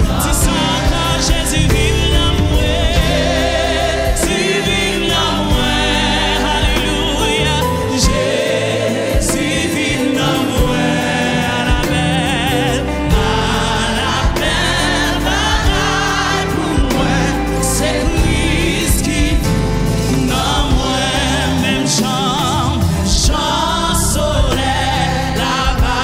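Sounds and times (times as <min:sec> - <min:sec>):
backing voices singing: 0:00.0 - 0:26.0
drums: 0:00.0 - 0:26.0
electric keyboard: 0:00.0 - 0:26.0.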